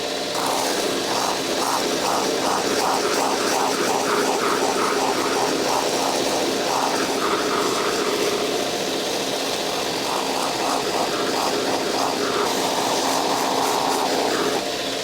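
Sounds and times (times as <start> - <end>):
grinder grinding rubber: 0.0 - 14.9.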